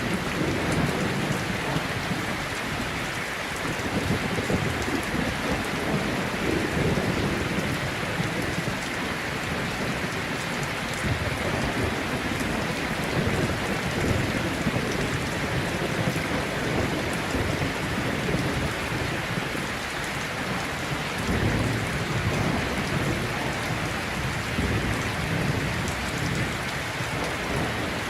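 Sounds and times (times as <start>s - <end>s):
low thunder rumbling: 0.0s - 2.8s, 3.7s - 28.0s
heavy rain falling: 0.0s - 28.0s.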